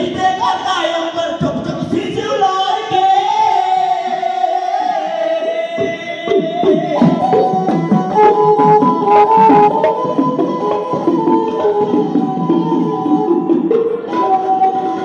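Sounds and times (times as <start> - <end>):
drums and instruments: 0.0 - 4.2, 5.4 - 15.0.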